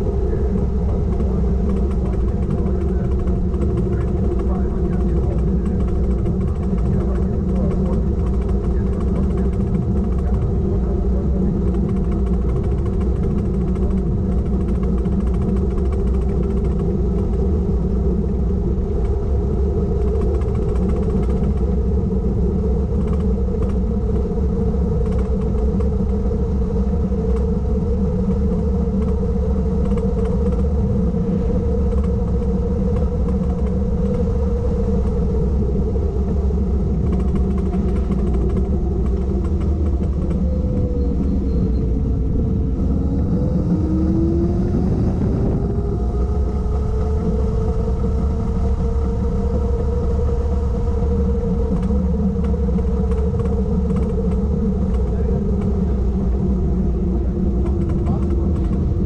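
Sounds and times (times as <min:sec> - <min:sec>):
engine drone: 0:00.0 - 0:59.0
road and tyre rumble: 0:00.0 - 0:59.0.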